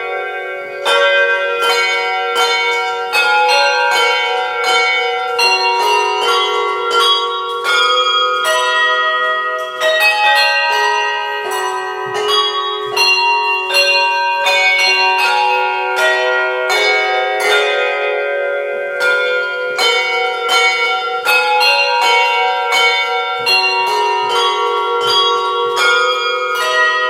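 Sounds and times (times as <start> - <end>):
handbells playing a tune: 0.0 - 27.0.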